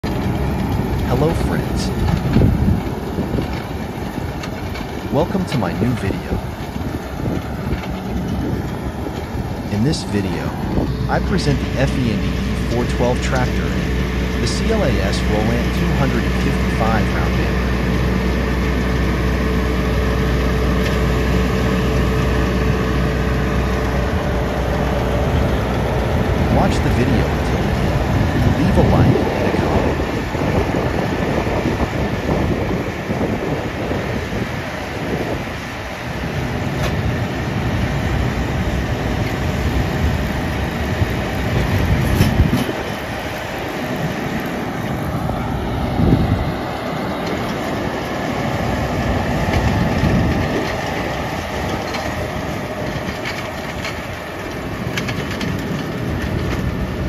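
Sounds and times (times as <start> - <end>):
baler machinery running: 0.0 - 57.0
tractor diesel engine rumble: 0.0 - 57.0.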